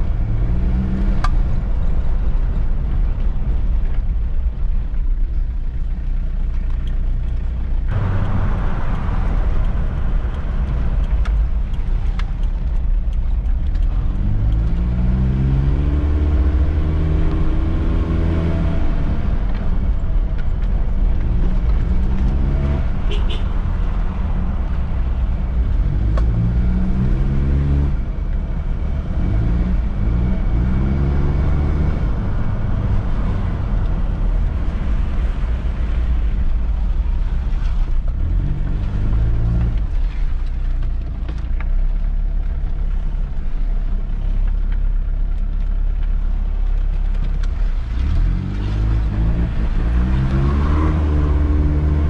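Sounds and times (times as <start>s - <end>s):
road rumble: 0.0s - 52.0s
diesel engine accelerating: 6.5s - 52.0s.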